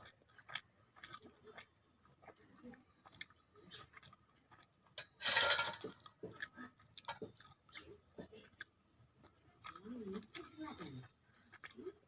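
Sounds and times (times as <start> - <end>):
wet chewing mouth clicks: 0.0 - 5.0, 5.8 - 12.0.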